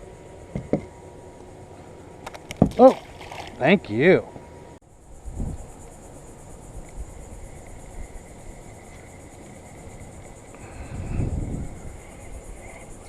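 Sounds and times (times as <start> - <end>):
insects droning: 0.0 - 13.0
low rumbling background: 0.0 - 13.0.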